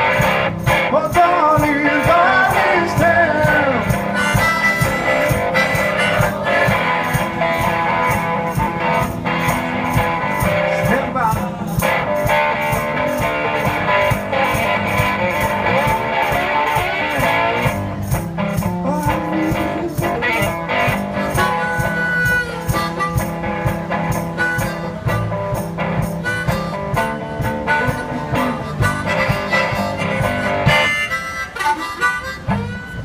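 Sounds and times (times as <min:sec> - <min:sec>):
blues guitar: 0:00.0 - 0:33.0
steady beat: 0:00.0 - 0:33.0.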